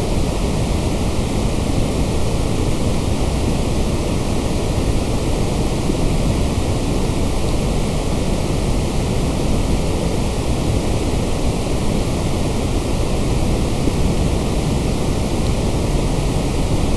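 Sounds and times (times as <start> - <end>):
steady white noise hiss: 0.0 - 16.9.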